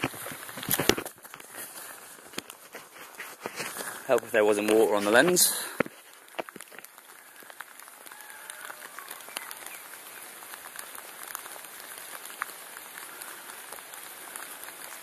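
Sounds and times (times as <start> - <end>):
raindrops tapping: 0.0 - 15.0
steady rain hiss: 0.0 - 15.0.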